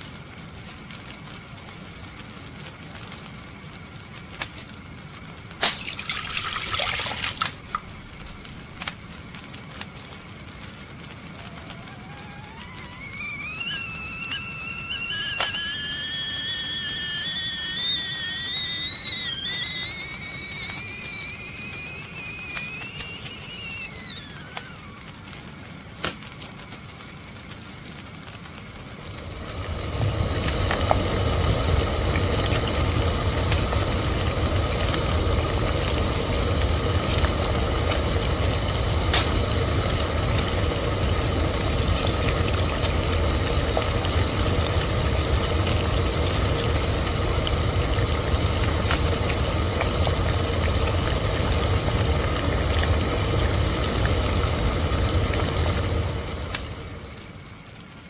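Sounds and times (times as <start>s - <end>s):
low rumble with hiss: 0.0s - 58.0s
tea kettle whistling: 5.5s - 8.9s, 11.2s - 25.4s, 28.8s - 57.6s.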